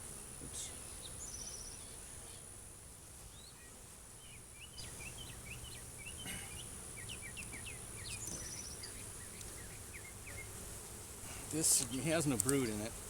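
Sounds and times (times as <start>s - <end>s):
honeybees humming: 0.0s - 13.0s
songbirds chirping: 0.4s - 13.0s.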